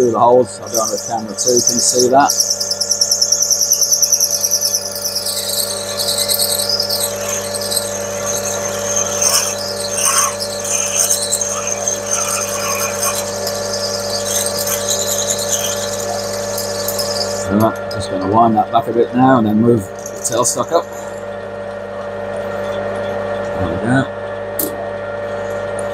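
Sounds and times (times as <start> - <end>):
drill cutting squeal: 0.0 - 21.5, 22.2 - 25.9
lathe motor hum: 0.0 - 25.9.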